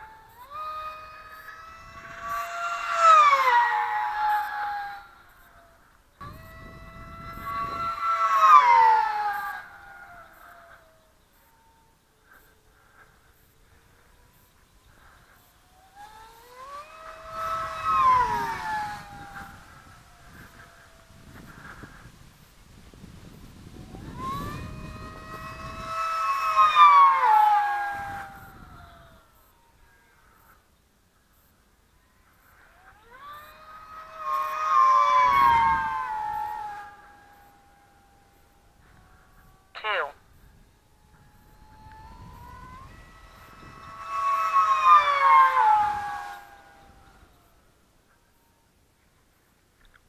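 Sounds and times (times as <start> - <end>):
wind rumbling on microphone: 0.0 - 30.6, 32.4 - 48.6
model plane motor whine: 0.0 - 50.0.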